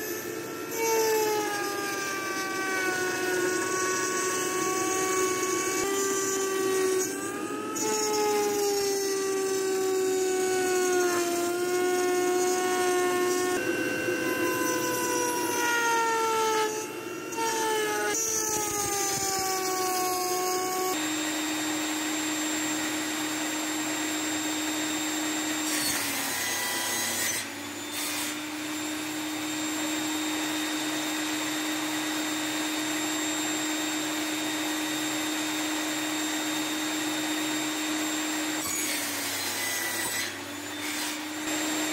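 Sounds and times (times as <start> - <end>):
table saw running: 0.0 - 41.9
woodworking machine motor cutting: 0.0 - 41.9.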